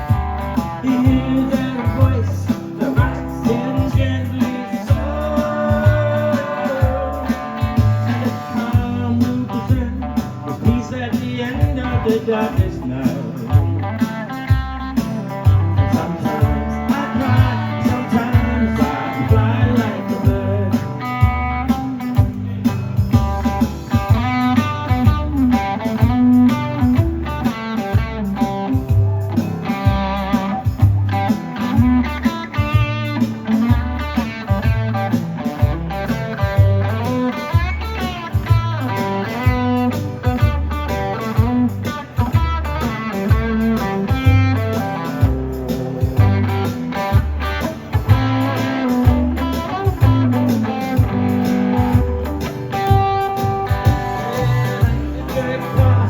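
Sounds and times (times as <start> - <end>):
electric guitar lead: 0.0 - 56.0
rockabilly band playing: 0.0 - 56.0.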